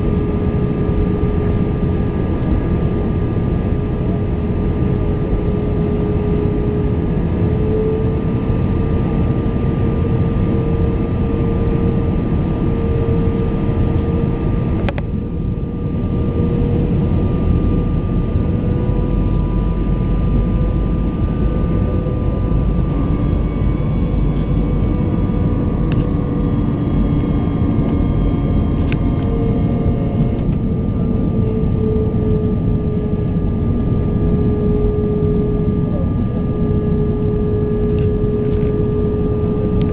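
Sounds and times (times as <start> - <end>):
jet engine whine and airflow: 0.0 - 39.9.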